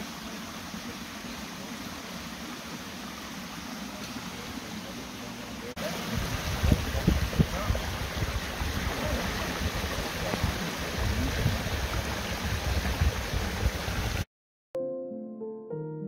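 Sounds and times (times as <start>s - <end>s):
stream running over rocks: 0.0s - 14.3s.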